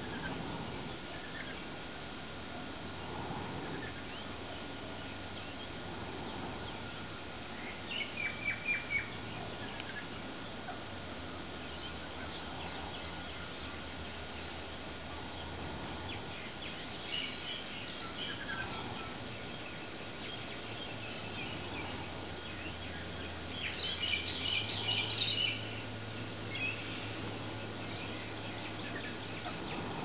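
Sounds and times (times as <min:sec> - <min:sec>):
birds chirping and twittering: 0:00.0 - 0:01.8, 0:02.7 - 0:30.0
background hiss: 0:00.0 - 0:30.0.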